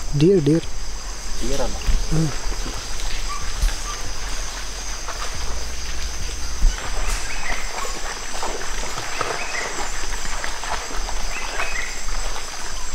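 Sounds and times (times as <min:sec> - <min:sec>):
high-pitched insect chorus: 0:00.0 - 0:12.9.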